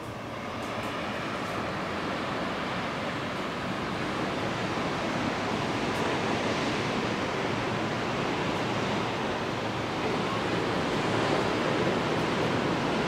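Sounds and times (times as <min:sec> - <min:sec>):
distant surf breaking: 0:00.0 - 0:13.0.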